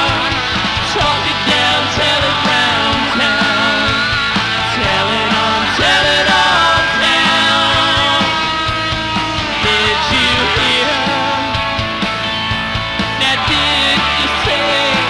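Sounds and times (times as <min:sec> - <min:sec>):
bass guitar: 0:00.0 - 0:15.0
drums beating: 0:00.0 - 0:15.0
electric guitars: 0:00.0 - 0:15.0.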